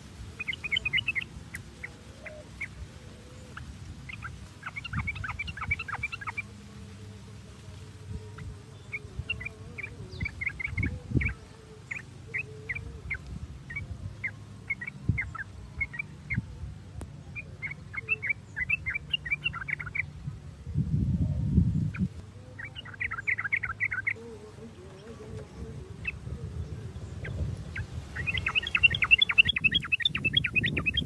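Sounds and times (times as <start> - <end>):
bird chattering and calling: 0.0 - 6.6, 8.2 - 16.5, 17.1 - 20.2, 21.8 - 31.0
faint low hum: 0.0 - 31.0.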